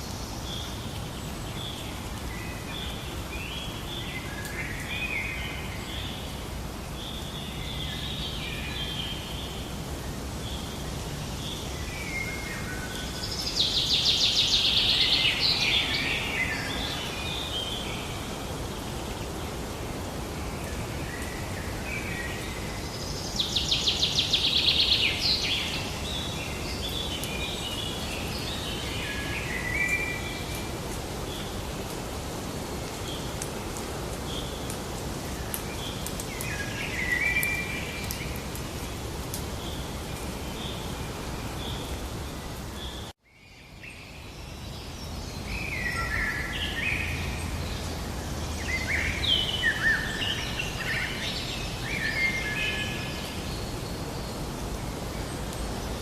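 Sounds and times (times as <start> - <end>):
outdoor ambience hiss: 0.0 - 56.0
songbirds chirping: 0.0 - 56.0.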